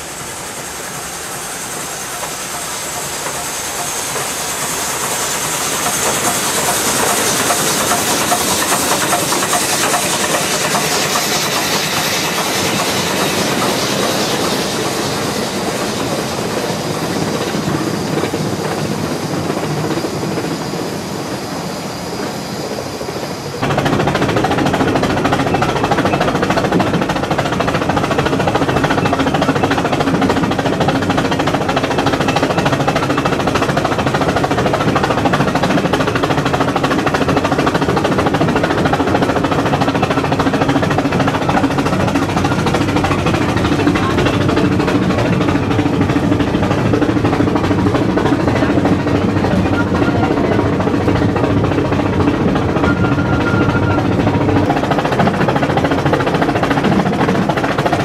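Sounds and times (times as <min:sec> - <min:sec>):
steam hissing: 0:00.0 - 0:58.0
train coaches rattling on track: 0:00.0 - 0:58.0.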